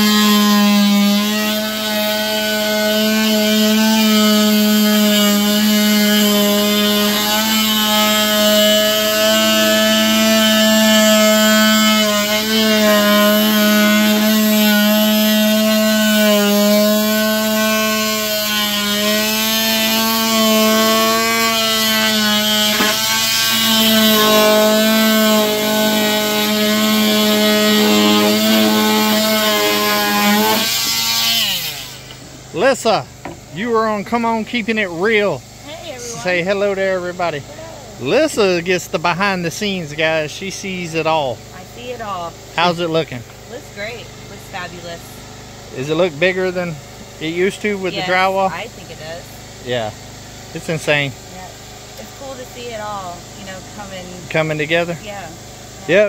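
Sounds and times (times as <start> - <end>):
power saw cutting drywall: 0.0 - 37.4, 44.6 - 51.1, 52.2 - 56.0.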